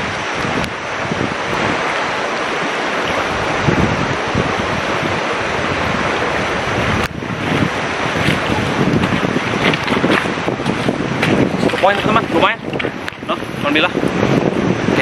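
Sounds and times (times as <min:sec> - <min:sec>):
river rushing: 0:00.0 - 0:15.0
wind buffeting microphone: 0:00.0 - 0:15.0.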